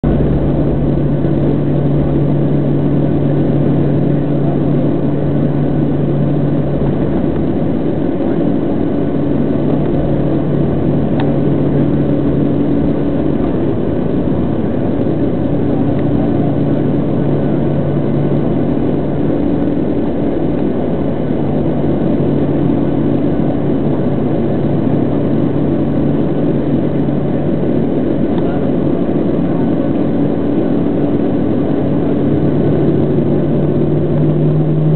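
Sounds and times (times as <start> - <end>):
airliner engines rushing: 0.0 - 34.9
low hum: 0.0 - 34.9.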